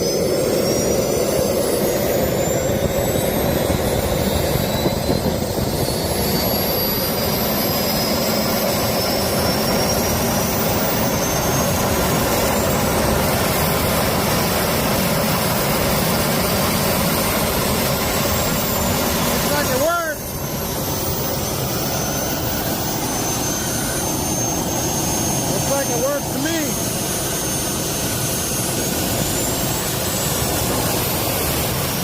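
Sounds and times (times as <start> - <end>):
jet engine whine: 0.0 - 32.0.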